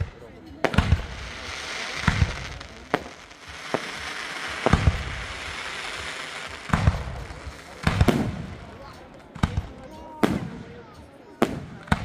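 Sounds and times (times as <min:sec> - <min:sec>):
fireworks crackle: 0:00.0 - 0:10.5
fireworks bangs: 0:00.0 - 0:10.6.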